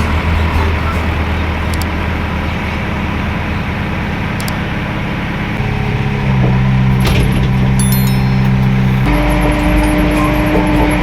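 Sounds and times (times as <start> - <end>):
diesel engine of heavy machinery: 0.0 - 11.0.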